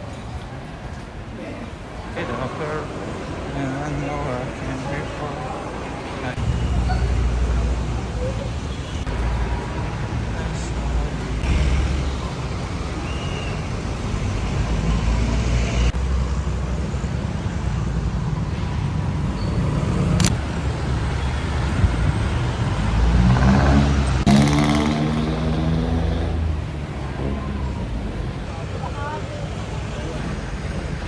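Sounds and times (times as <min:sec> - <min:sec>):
vehicle engine and tyres rumble: 0:00.0 - 0:31.0
pitched engine hum: 0:02.2 - 0:31.0.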